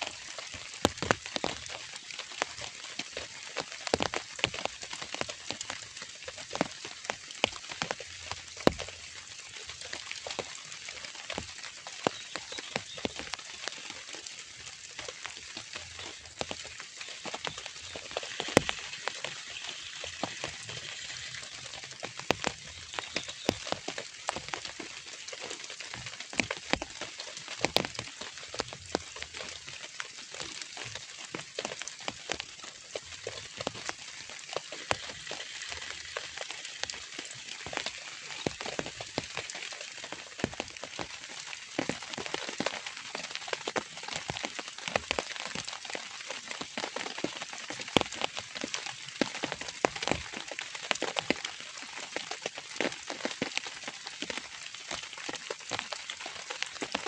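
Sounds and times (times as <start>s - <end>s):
light rain falling: 0.0s - 57.0s
raindrops ticking on a surface: 0.0s - 57.0s.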